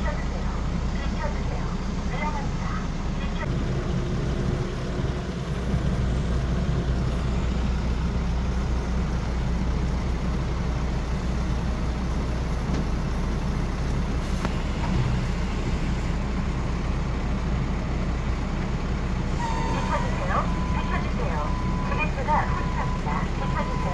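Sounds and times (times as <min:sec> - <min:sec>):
diesel engine rumbling: 0:00.0 - 0:23.9.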